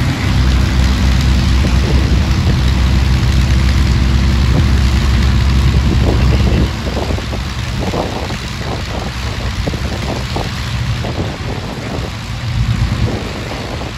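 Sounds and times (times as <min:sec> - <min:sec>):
aircraft engines droning: 0:00.0 - 0:13.9
wind noise on microphone: 0:00.0 - 0:13.9.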